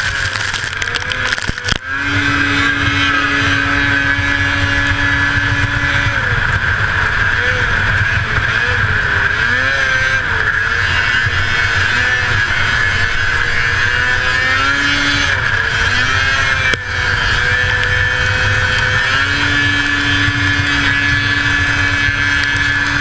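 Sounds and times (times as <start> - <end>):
snowmobile engine at high revs: 0.0 - 23.0
track and wind rumble: 0.0 - 23.0.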